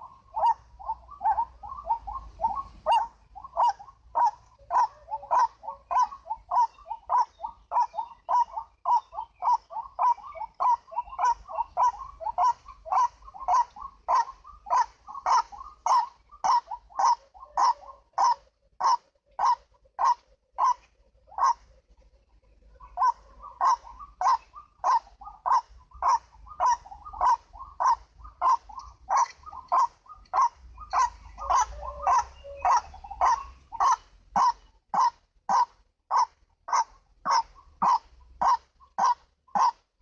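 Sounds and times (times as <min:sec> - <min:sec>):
waterhen calling: 0:00.0 - 0:21.6, 0:22.6 - 0:39.8.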